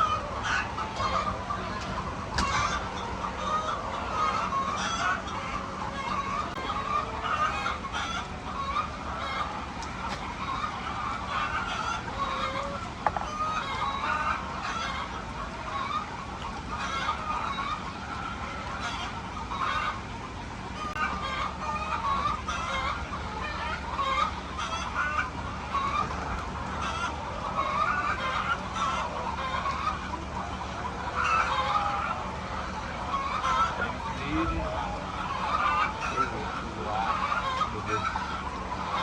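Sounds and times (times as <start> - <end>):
hens clucking and calling: 0.0 - 39.0
steady low hum: 0.0 - 39.0.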